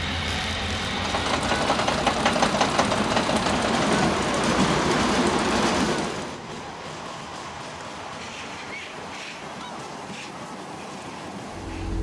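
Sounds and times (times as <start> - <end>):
roller coaster rattling on track: 0.1 - 11.5.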